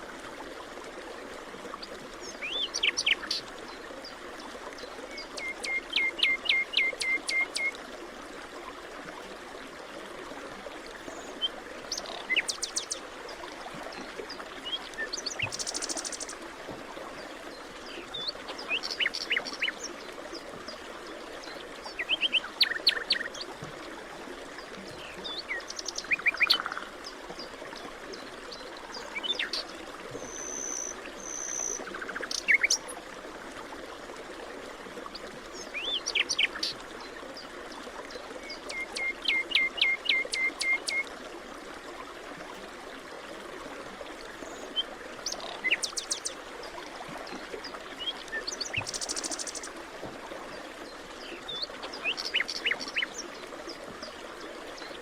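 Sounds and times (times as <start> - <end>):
running water hiss: 0.0 - 55.0.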